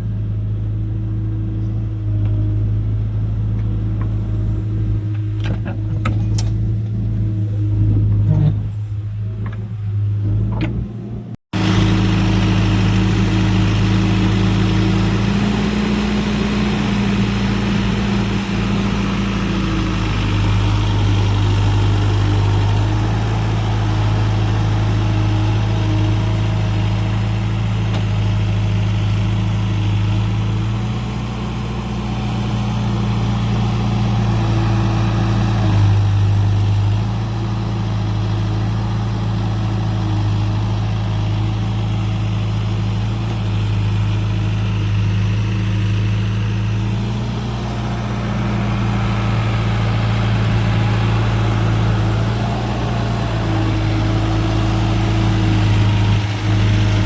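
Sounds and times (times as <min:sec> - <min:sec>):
diesel farm engine running: 0:00.0 - 0:57.0.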